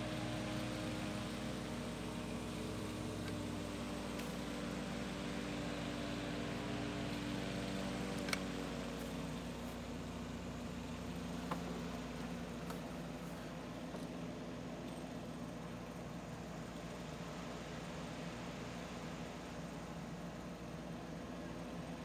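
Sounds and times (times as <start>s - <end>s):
electric fan motor hum: 0.0s - 22.0s
fan air rushing: 0.0s - 22.0s.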